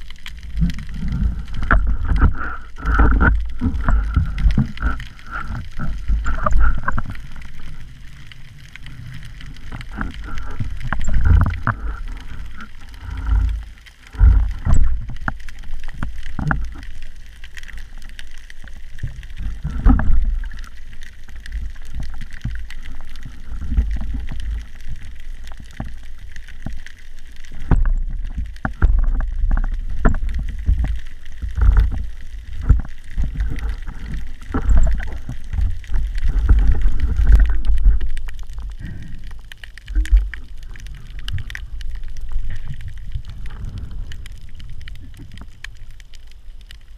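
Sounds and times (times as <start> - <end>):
muffled underwater rumble: 0.0 - 46.9.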